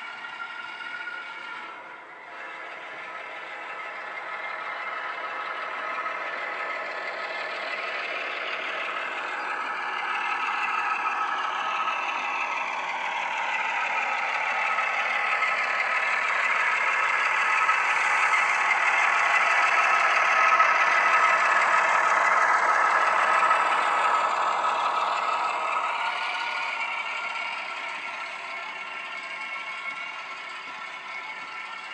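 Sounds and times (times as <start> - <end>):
diesel engine sound from small speaker: 0.0 - 31.9.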